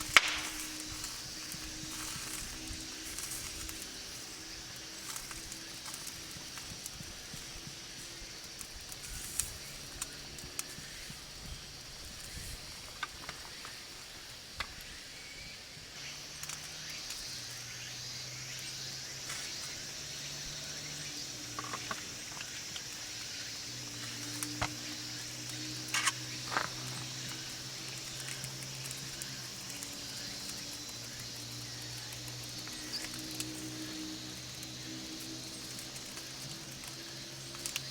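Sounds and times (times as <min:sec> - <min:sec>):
fire crackles and pops: 0:00.0 - 0:37.9
meat sizzling over fire: 0:00.0 - 0:37.9.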